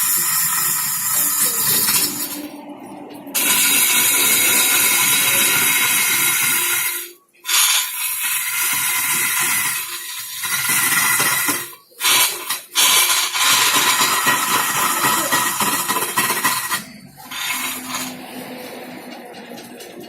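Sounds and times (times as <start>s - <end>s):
wood lathe cutting hiss: 0.0s - 2.5s, 3.4s - 20.0s.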